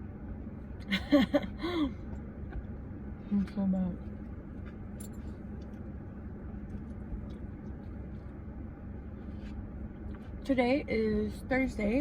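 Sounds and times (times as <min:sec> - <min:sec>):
car engine rumble inside cabin: 0:00.0 - 0:12.0
faint constant hum: 0:00.0 - 0:12.0.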